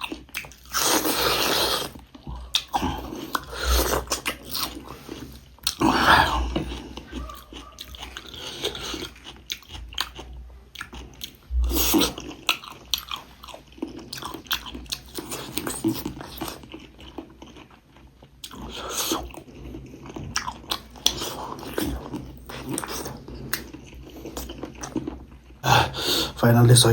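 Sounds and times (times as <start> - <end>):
person chewing food: 0.0 - 26.3.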